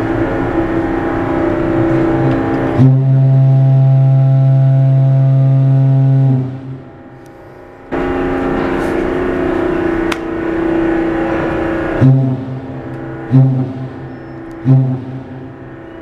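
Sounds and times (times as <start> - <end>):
ship's horn blast: 0.0 - 7.2, 7.9 - 16.0.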